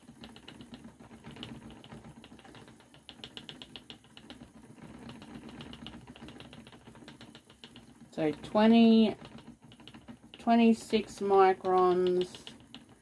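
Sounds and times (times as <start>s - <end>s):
low steady hum: 0.0s - 13.0s
spinning wheel ticking: 0.0s - 13.0s.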